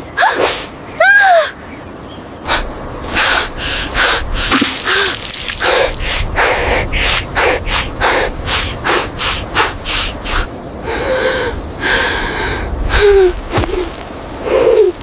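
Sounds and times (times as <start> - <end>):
person panting: 2.5 - 14.9.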